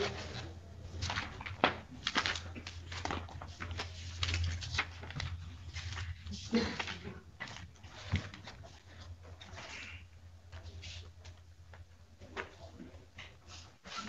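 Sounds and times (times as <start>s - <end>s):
low mains hum: 0.0s - 14.0s
paper pages rustling: 0.0s - 14.0s.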